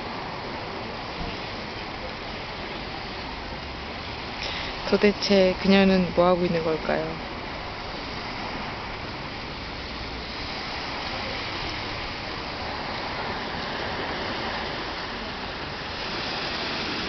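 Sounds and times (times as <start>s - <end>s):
surf washing on shore: 0.0s - 17.0s.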